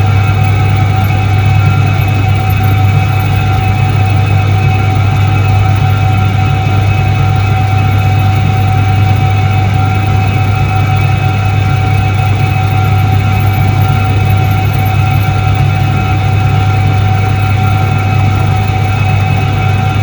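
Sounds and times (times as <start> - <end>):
washing machine humming: 0.0 - 20.0.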